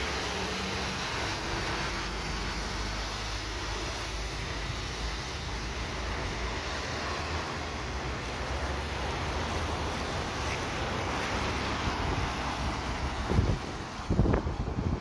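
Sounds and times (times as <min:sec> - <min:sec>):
traffic on wet street: 0:00.0 - 0:15.0.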